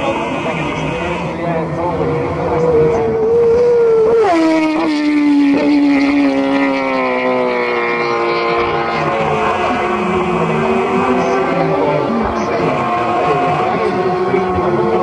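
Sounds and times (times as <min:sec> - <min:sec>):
racing motorcycle engine high-revving: 0:00.0 - 0:15.0.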